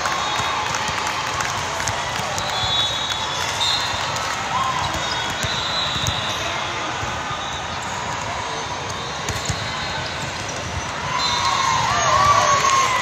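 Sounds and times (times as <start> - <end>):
echoing din of sports hall: 0.0 - 13.0
players shouting and cheering: 0.0 - 13.0
volleyball hits: 0.1 - 13.0.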